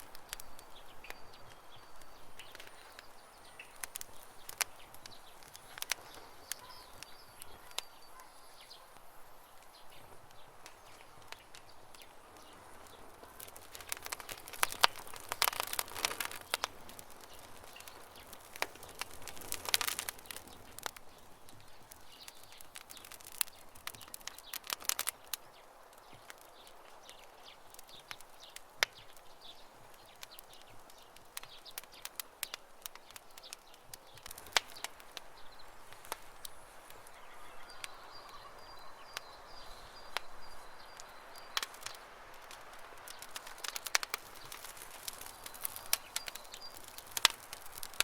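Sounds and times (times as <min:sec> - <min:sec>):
birds chirping faintly: 0:00.0 - 0:48.0
campfire wood crackling: 0:00.0 - 0:48.0.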